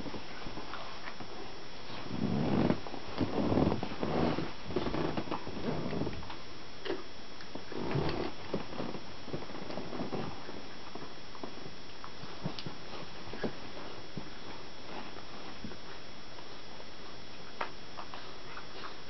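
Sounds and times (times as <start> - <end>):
puppies play growling: 0.0 - 19.0.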